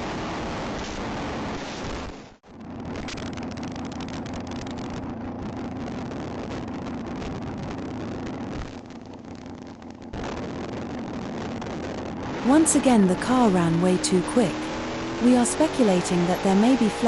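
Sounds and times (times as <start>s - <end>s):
dragster engine droning: 2.5s - 17.0s.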